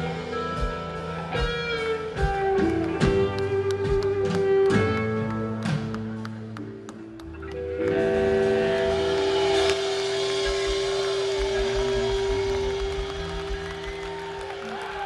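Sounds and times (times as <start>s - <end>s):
bending guitar tones: 0.0s - 15.0s
live rock band sustained note: 0.0s - 15.0s.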